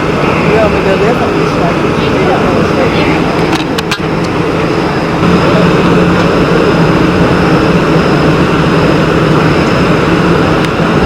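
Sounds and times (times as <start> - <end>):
motorcycle engines droning: 0.0 - 11.0.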